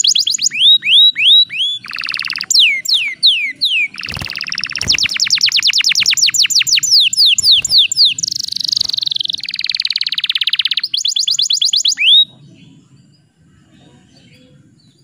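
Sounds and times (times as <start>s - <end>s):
canary singing: 0.0s - 12.8s.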